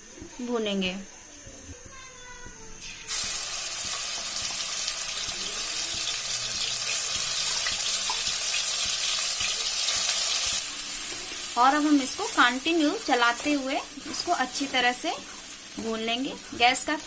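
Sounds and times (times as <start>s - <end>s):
paste sizzling in hot oil: 2.8s - 17.0s.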